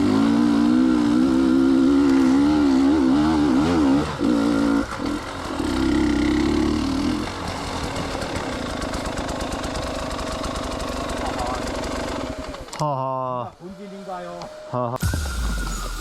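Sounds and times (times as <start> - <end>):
dirt bike engine revving: 0.0 - 15.8.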